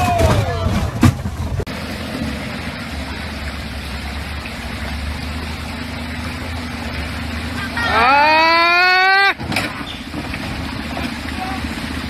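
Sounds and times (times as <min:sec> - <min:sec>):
car engine running at low revs: 0:00.0 - 0:12.0
stream water flowing over rocks: 0:01.3 - 0:12.0.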